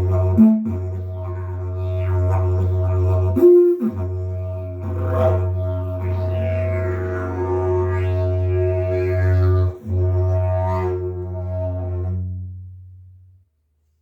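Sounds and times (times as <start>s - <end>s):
didgeridoo drone with overtones: 0.0s - 12.4s.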